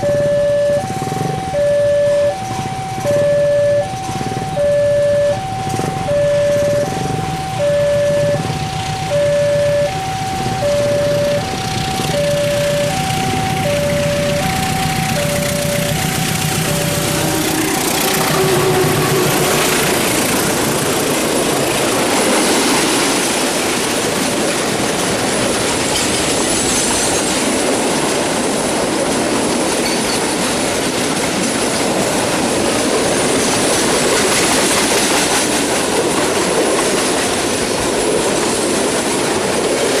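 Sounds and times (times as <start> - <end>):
train wheels rolling on rails: 0.0 - 40.0.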